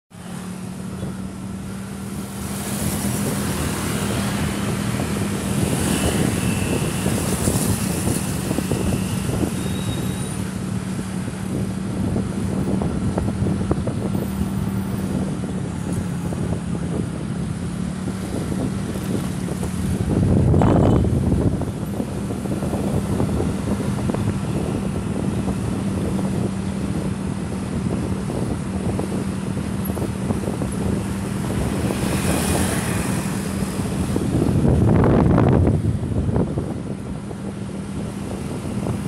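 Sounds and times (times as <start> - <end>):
wind rumbling on microphone: 0.3 - 39.0.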